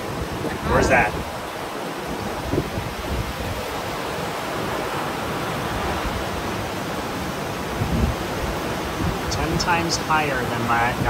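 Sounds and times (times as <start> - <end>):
wind buffeting microphone: 0.0 - 9.9
rushing river water: 0.0 - 11.0
waterfall: 0.0 - 11.0.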